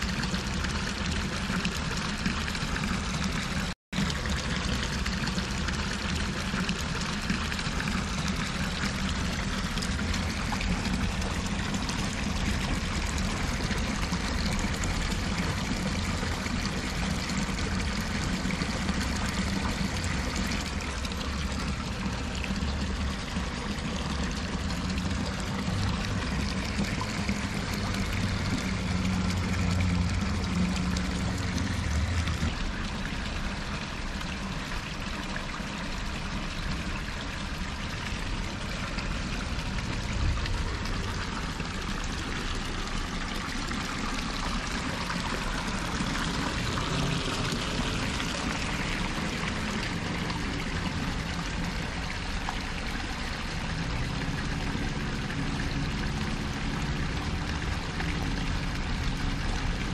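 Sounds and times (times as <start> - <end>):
water running and splashing: 0.0 - 59.9.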